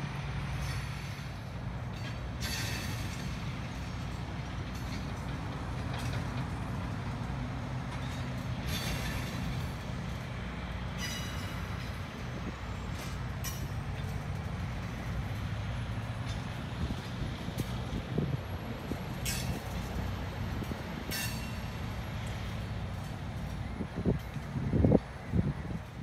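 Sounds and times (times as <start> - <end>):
wheel squeal and rattle: 0.0 - 7.0, 7.8 - 10.2, 10.8 - 25.4
diesel engine drone: 0.0 - 26.0
train wheels rumbling: 0.0 - 26.0.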